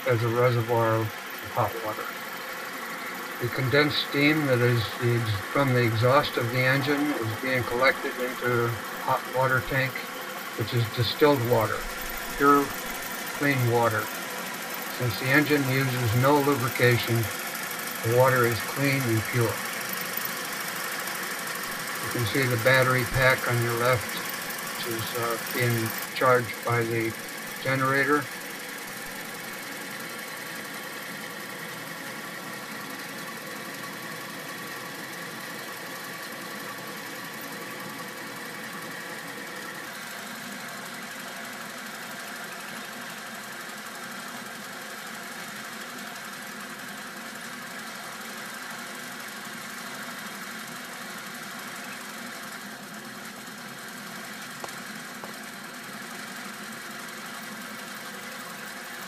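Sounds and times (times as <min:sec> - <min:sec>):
steam engine running: 0:00.0 - 0:59.0.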